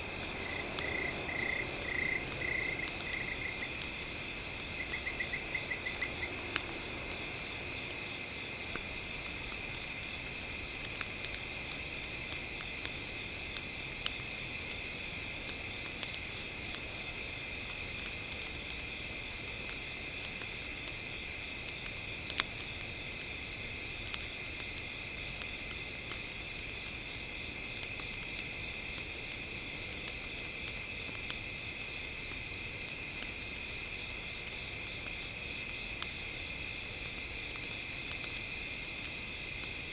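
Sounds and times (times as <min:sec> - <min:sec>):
campfire crackling and popping: 0:00.0 - 0:39.9
night insects chirring: 0:00.0 - 0:39.9.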